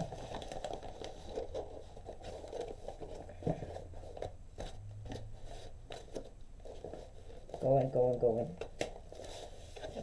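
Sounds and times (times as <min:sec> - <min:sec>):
plastic packaging rustling: 0:00.0 - 0:10.0.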